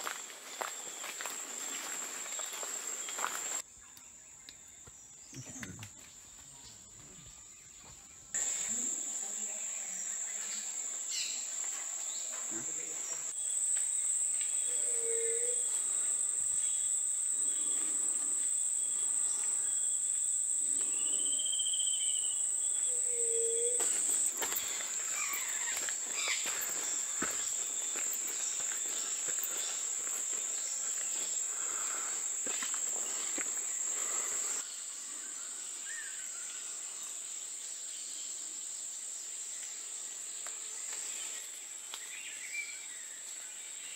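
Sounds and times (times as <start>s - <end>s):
high-pitched insect trill: 0.0s - 3.8s, 8.4s - 43.9s.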